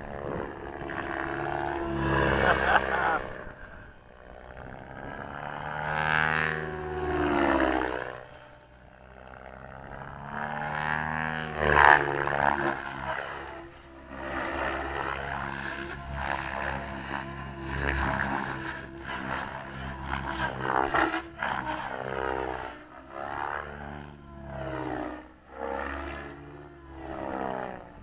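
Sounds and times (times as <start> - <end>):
model helicopter rotor whine: 0.0 - 28.0.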